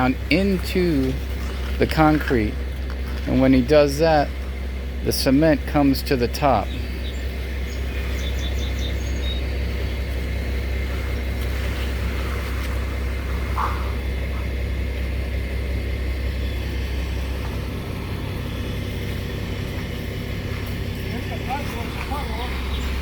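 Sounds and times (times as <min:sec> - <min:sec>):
engine rumbling: 0:00.0 - 0:23.0.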